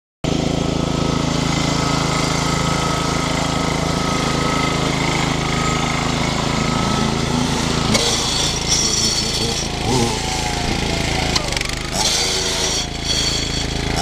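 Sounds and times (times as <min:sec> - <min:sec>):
mower engine running: 0:00.2 - 0:14.0.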